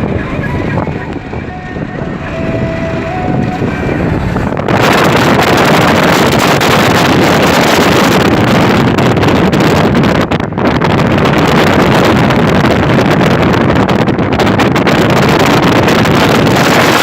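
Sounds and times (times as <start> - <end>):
road vehicle travel noise: 0.0 - 17.0
wind buffeting microphone: 0.0 - 17.0.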